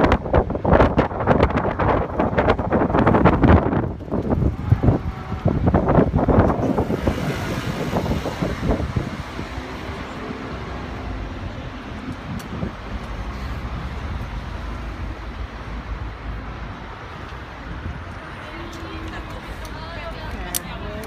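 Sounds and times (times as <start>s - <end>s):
cars passing: 0.0s - 21.0s
wind buffeting microphone: 0.0s - 21.0s.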